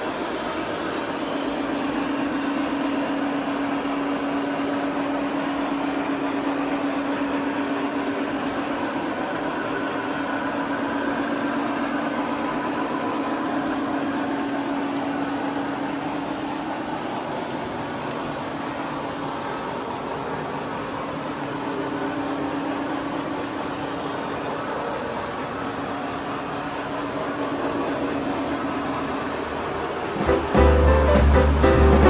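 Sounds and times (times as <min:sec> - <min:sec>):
model train running on track: 0:00.0 - 0:32.0.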